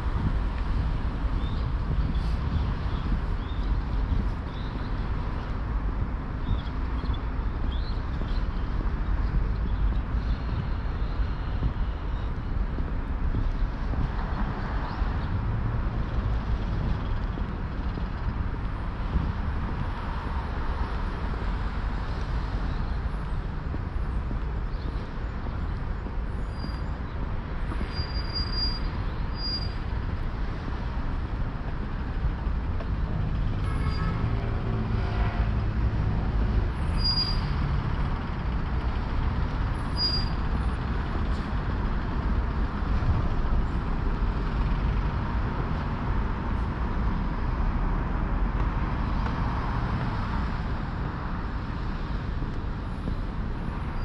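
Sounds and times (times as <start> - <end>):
rumble of passing cars and buses: 0.0 - 54.0.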